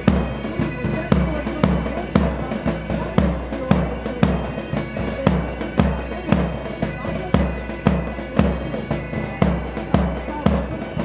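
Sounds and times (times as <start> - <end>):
bagpipes playing a march: 0.0 - 11.0.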